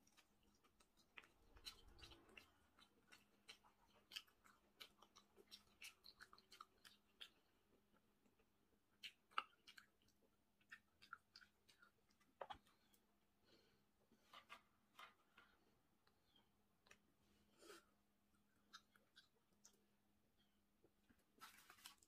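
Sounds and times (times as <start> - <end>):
close-miked chewing: 0.0 - 13.6, 15.3 - 22.0.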